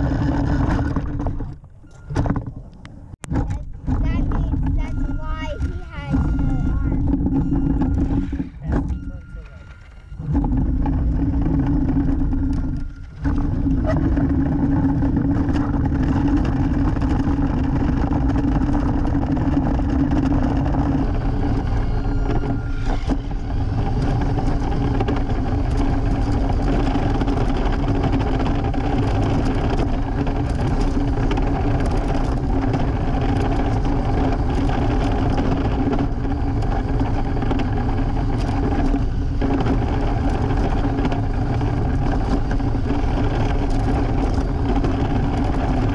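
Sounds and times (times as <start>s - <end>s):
electric motor and gears whining: 0.0s - 45.9s
tyre rumble on rough pavement: 0.0s - 45.9s.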